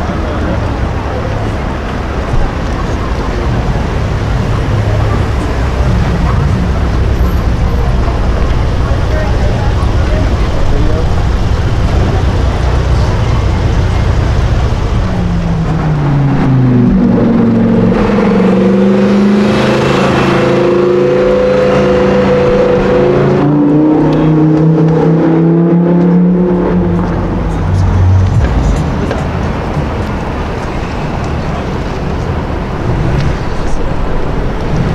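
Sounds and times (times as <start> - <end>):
sports car engine running: 0.1 - 34.7.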